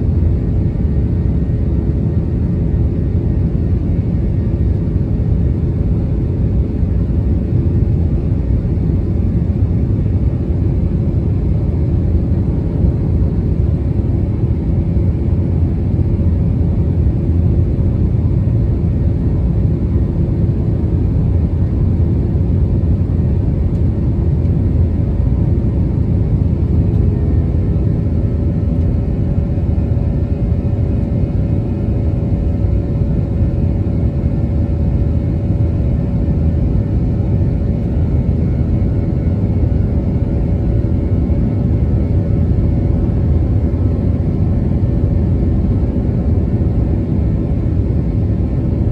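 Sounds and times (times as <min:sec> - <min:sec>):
jet engine rumble: 0:00.0 - 0:48.9.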